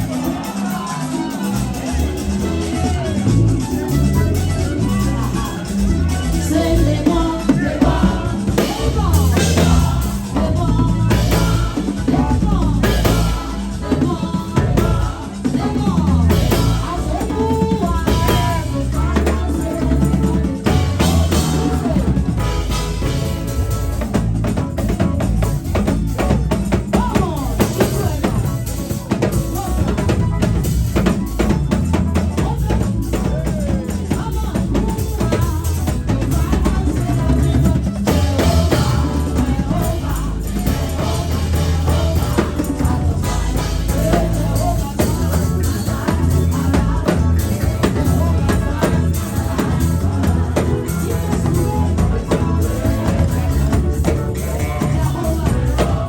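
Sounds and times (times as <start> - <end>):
live gospel band playing: 0.0 - 56.0
voices singing: 0.0 - 56.0.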